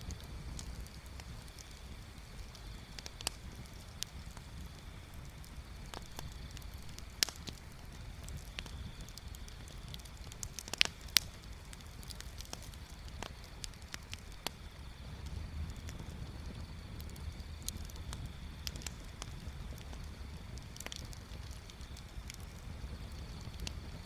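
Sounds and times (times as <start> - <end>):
bonfire crackling and popping: 0.0 - 24.0
low steady rumble: 0.0 - 24.0.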